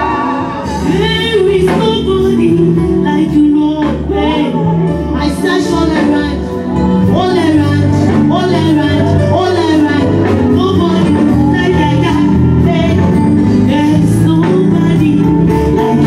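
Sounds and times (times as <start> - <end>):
band playing with steady beat: 0.0 - 16.0
person singing: 0.0 - 16.0.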